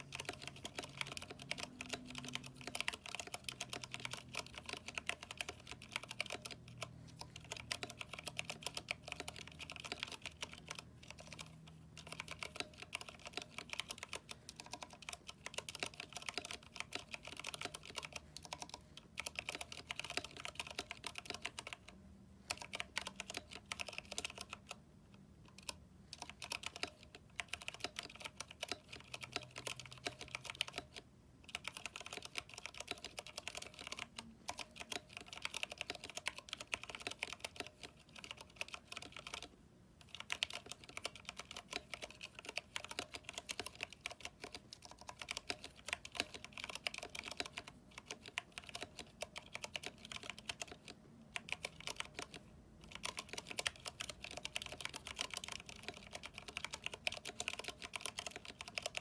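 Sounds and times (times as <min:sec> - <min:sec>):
mechanical keyboard typing: 0:00.0 - 0:24.8, 0:25.4 - 0:59.0.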